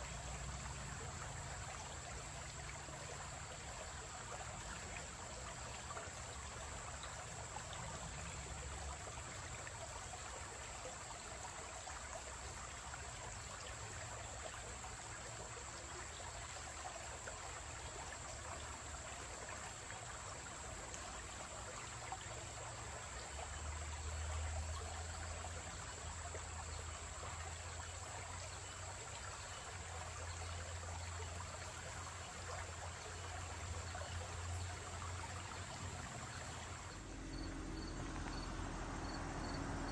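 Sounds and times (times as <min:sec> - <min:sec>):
creek trickling over stones: 0:00.0 - 0:39.8.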